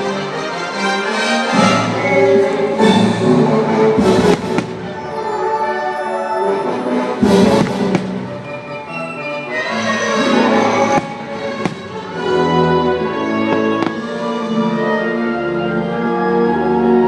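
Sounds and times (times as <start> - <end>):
orchestral music: 0.0 - 17.0.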